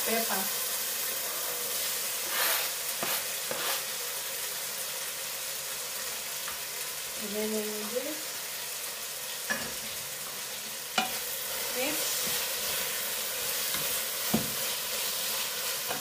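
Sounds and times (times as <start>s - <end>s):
vegetables sizzling in a pot: 0.0s - 16.0s.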